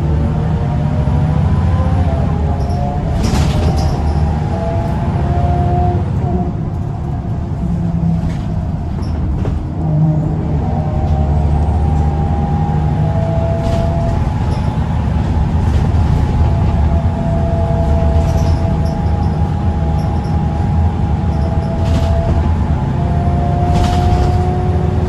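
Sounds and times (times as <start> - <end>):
bus diesel engine pulling: 0.0 - 25.0.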